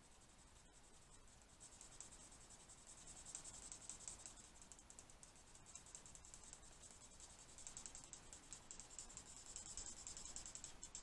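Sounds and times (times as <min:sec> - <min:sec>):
marker scratching on paper: 0:00.1 - 0:11.0.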